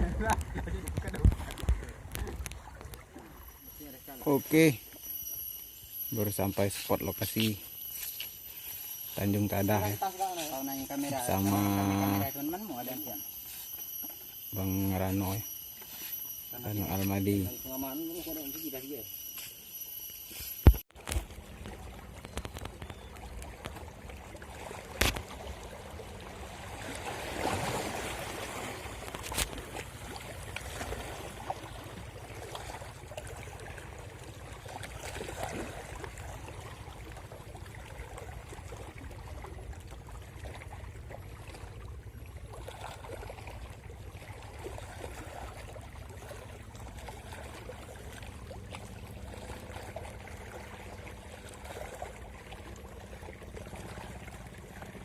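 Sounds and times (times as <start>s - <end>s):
water lapping against boat hull: 0.0s - 55.0s.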